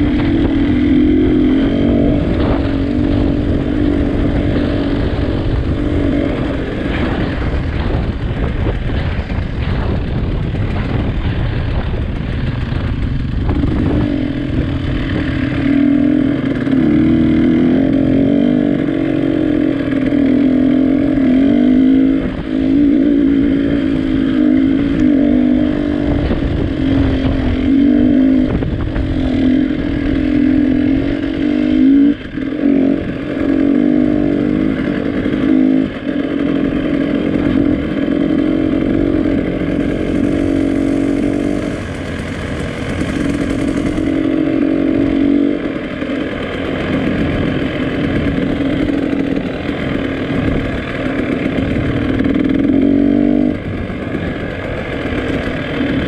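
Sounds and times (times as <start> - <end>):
motorcycle engine running: 0.0 - 56.0
wind noise: 0.0 - 56.0.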